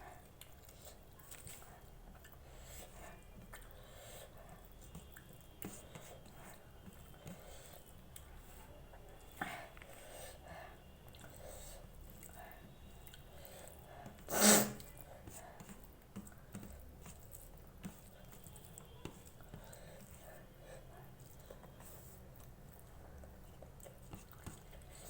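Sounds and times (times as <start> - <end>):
person chewing food: 0.0 - 8.4, 11.0 - 25.0.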